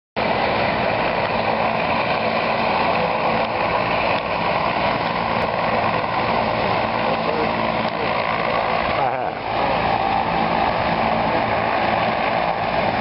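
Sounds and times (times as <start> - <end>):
helicopter turbine rushing: 0.2 - 13.0
high turbine whine: 0.2 - 13.0.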